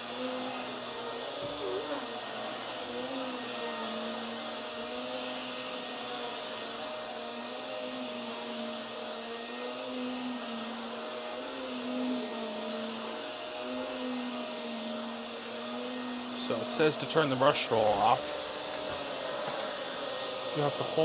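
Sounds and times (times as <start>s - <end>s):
vacuum cleaner on carpet: 0.0s - 21.0s.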